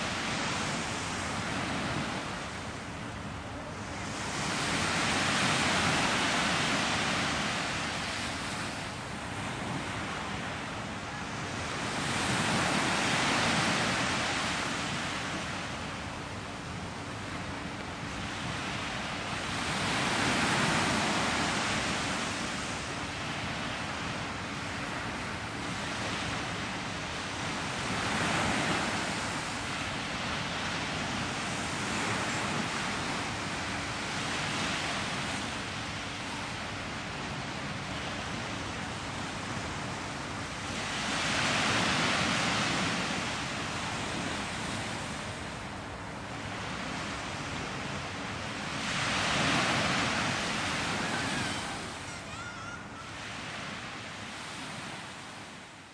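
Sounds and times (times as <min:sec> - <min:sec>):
small waves breaking on shore: 0:00.0 - 0:55.9.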